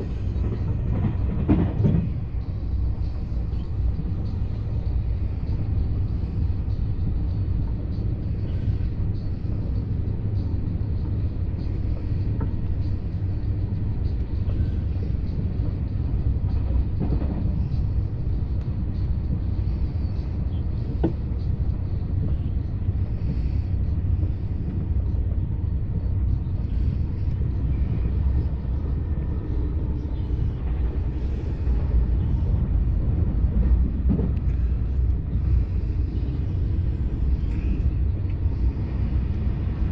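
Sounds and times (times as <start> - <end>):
train rumbling along track: 0.0 - 39.9.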